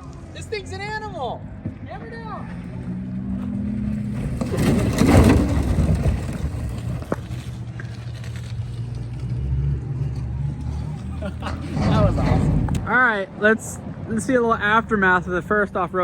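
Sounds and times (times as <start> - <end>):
tyre and chassis noise: 1.4 - 16.0.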